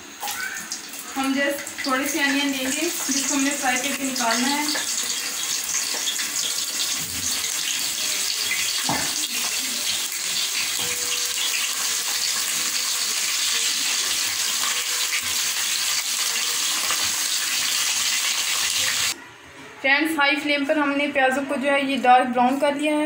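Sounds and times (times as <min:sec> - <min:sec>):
onions sizzling in hot oil: 0:00.2 - 0:19.2.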